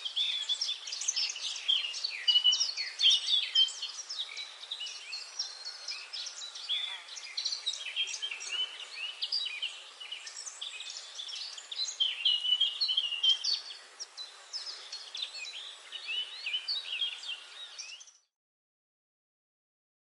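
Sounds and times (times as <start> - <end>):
small birds chirping and twittering: 0.0 - 18.3.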